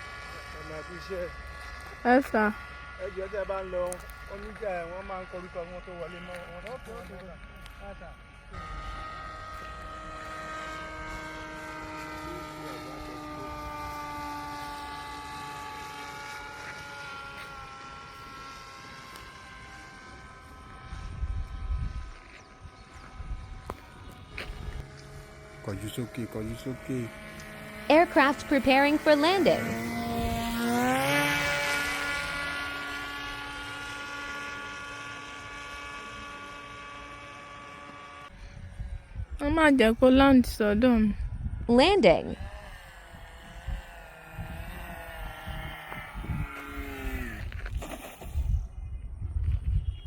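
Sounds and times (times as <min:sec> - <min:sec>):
drone propeller motor whining: 0:00.0 - 0:50.0.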